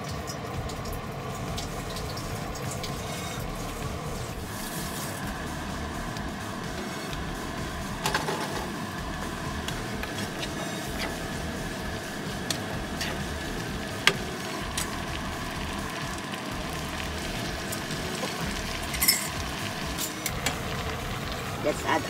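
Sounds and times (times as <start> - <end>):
food simmering and bubbling: 0.0 - 22.0.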